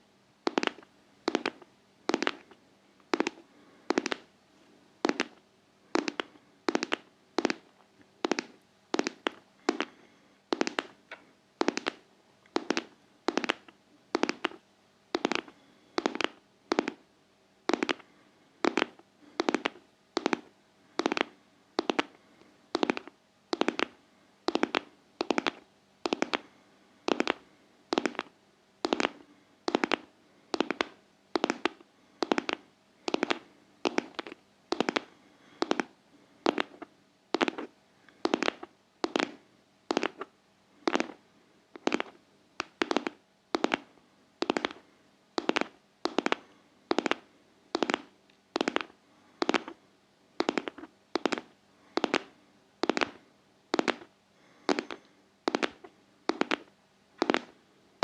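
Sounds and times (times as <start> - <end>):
faint steady hum: 0.0 - 58.0
crisp rhythmic tapping: 0.5 - 4.3, 5.0 - 5.4, 6.0 - 17.0, 17.7 - 22.2, 22.8 - 26.5, 27.1 - 40.3, 40.9 - 41.2, 41.8 - 44.8, 45.4 - 49.8, 50.4 - 54.1, 54.7 - 57.6.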